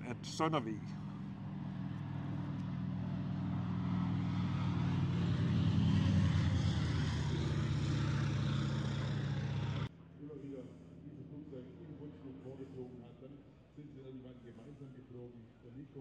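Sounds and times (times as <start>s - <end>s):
propeller aircraft droning: 0.0s - 15.1s.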